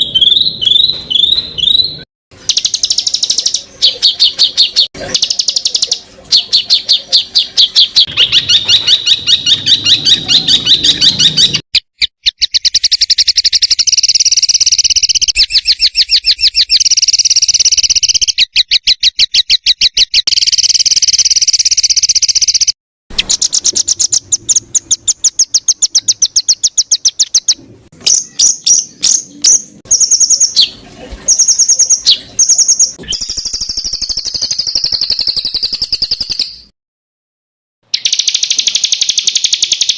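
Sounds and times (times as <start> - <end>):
songbird rapid high-pitched notes: 0.0 - 36.6, 37.9 - 39.9.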